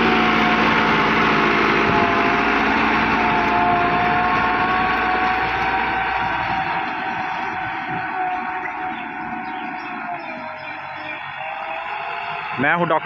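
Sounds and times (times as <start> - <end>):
tractor engine running under load: 0.0 - 13.0.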